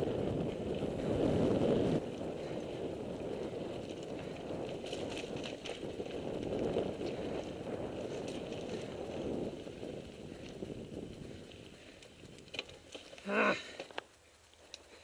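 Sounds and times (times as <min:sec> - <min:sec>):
bike clicks: 0:00.0 - 0:15.0
bike tyres on gravel trail: 0:00.0 - 0:15.0.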